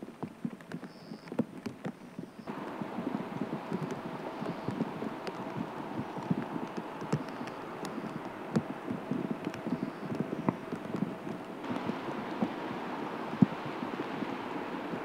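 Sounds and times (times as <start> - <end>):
raindrops tapping on a surface: 0.0 - 15.0
faint steady tone: 2.1 - 15.0.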